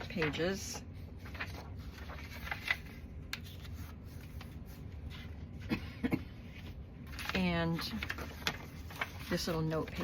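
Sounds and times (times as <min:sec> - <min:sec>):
paper pages rustling: 0:00.0 - 0:05.7, 0:06.4 - 0:10.0.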